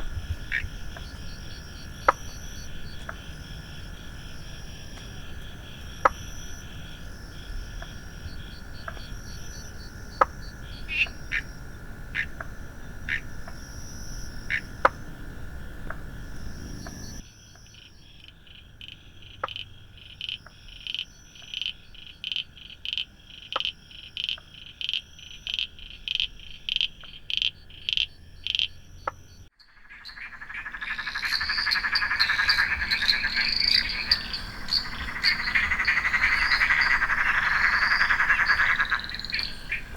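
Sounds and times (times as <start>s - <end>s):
frogs calling in chorus: 0.0s - 39.9s.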